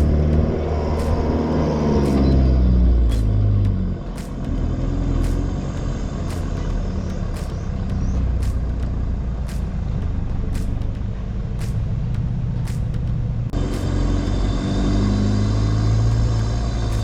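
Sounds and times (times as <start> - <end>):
sharp ticks: 0.0 - 14.0
vehicle engine rumbling: 0.0 - 17.0.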